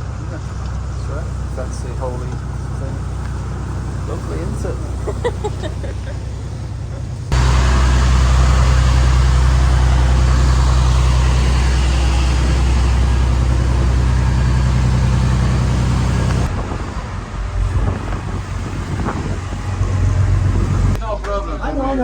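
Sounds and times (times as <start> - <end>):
road noise: 0.0 - 22.0
rough uneven engine rumble: 0.0 - 22.0
vehicle engine drone: 0.0 - 22.0.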